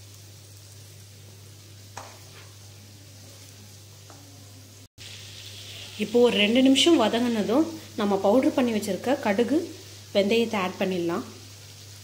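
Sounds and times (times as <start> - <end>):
faint sizzle in a pan: 0.0 - 12.0.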